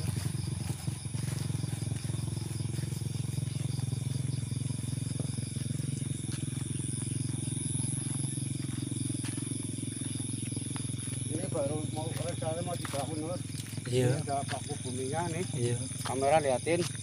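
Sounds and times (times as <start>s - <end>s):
frogs calling: 0.0s - 17.0s
insects chirring: 0.0s - 17.0s.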